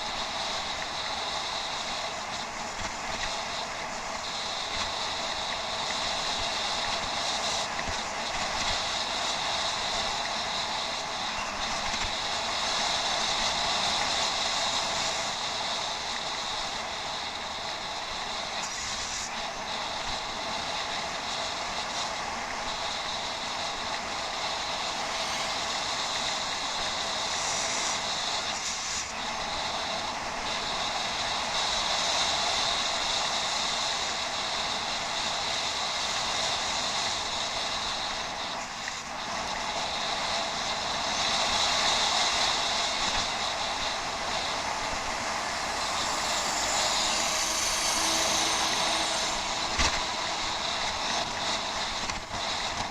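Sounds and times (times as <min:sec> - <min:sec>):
wind noise: 0:00.0 - 0:52.9.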